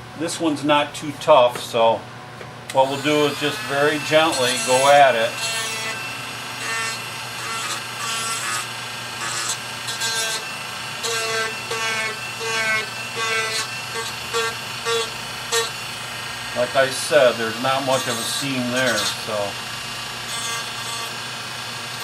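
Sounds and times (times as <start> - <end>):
rotary tool grinding wood: 2.8 - 22.0
rotary tool running: 2.8 - 22.0.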